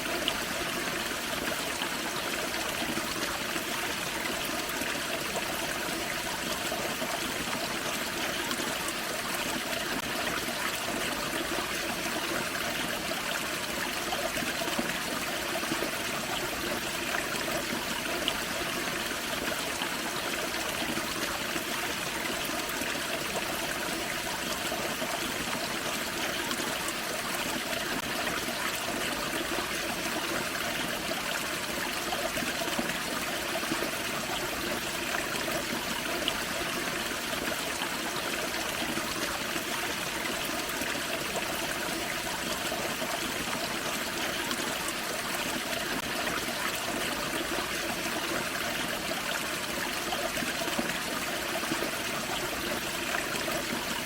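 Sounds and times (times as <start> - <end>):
waterfall and creek splashing: 0.0 - 54.0.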